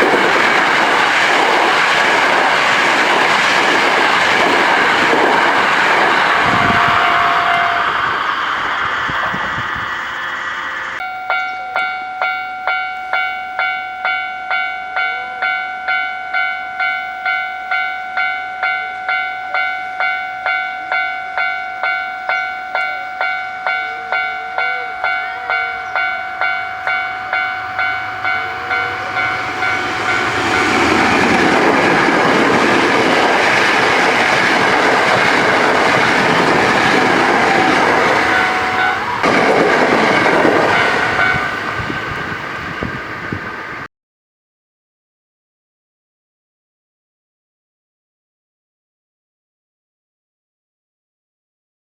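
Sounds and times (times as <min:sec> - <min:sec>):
level-crossing warning bell: 0:00.0 - 0:08.7, 0:10.5 - 0:43.4
train passing over crossing: 0:00.0 - 0:43.9.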